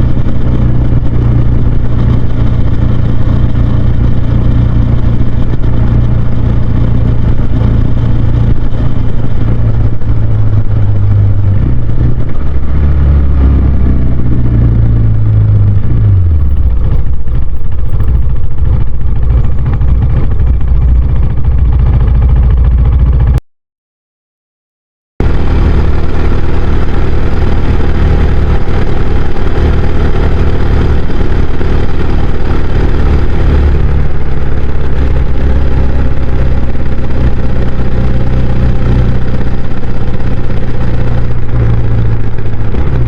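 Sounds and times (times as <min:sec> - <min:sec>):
motorcycle engine running: 0:00.0 - 0:23.4, 0:25.2 - 0:43.0.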